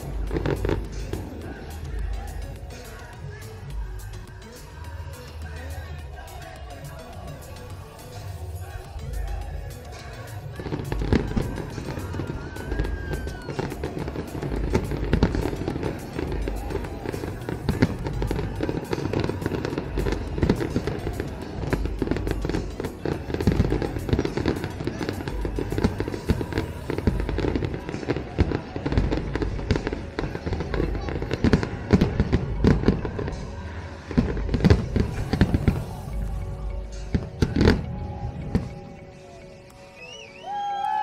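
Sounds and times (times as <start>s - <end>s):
fireworks bursting: 0.0s - 41.0s
fireworks crackling: 0.0s - 41.0s.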